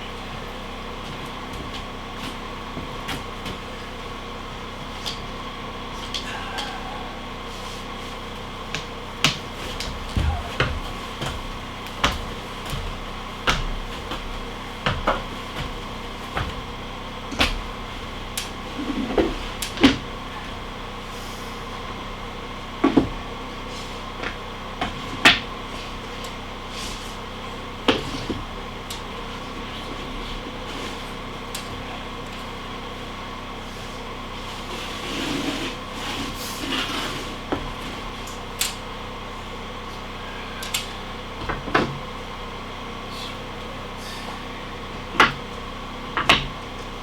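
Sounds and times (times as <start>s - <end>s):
steady machine hum: 0.0s - 47.0s.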